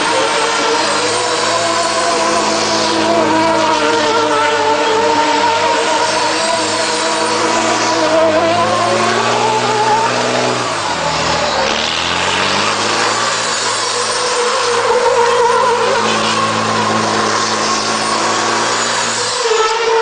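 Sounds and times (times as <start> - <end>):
dense noisy din: 0.0 - 20.0
truck engine revving: 0.0 - 20.0.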